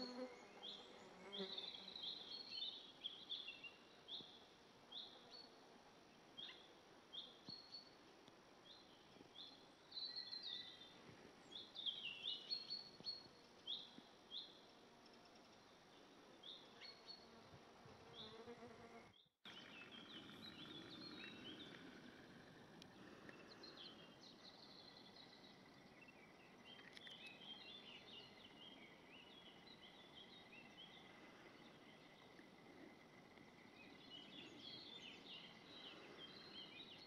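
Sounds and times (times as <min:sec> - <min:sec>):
small birds chirping and twittering: 0:00.0 - 0:05.6, 0:06.2 - 0:17.4, 0:19.2 - 0:37.0.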